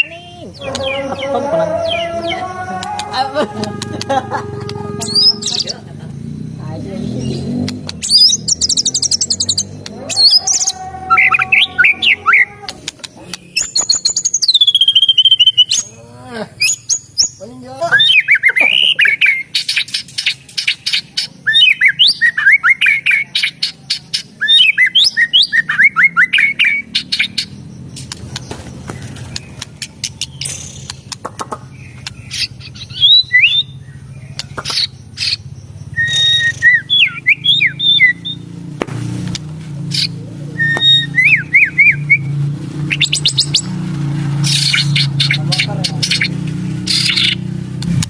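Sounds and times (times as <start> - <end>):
songbird singing with clicking notes: 0.0 - 1.0, 7.0 - 15.9, 18.0 - 43.8, 44.4 - 48.0.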